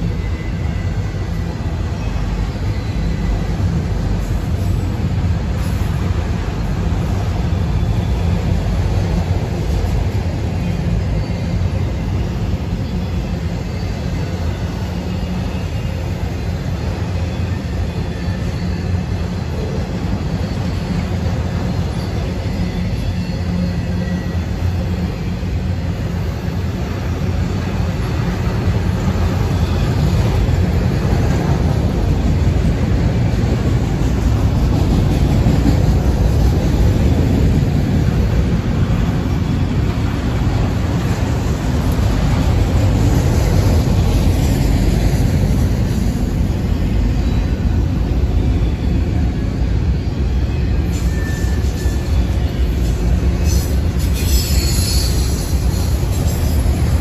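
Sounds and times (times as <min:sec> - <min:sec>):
high wheel squeals: 0:00.0 - 0:57.0
train wheels rumbling on rails: 0:00.0 - 0:57.0.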